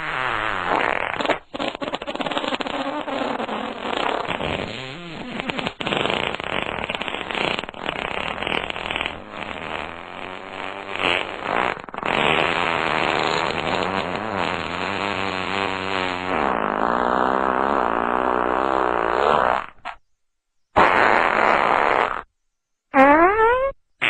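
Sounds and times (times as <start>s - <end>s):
fart sound effects: 0.0s - 20.0s, 20.8s - 22.3s, 22.9s - 23.8s.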